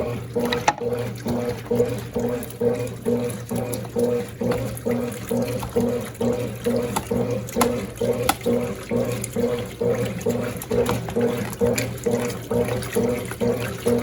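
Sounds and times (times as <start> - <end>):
rhythmic churning: 0.0 - 14.0
washing machine motor hum: 0.0 - 14.0
water sloshing: 0.0 - 14.0.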